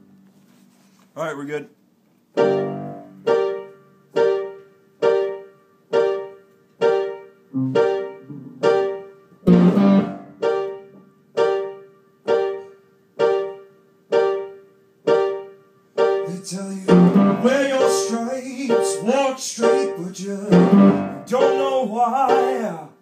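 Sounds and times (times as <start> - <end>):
piano chords: 0.0 - 0.2, 2.3 - 23.0.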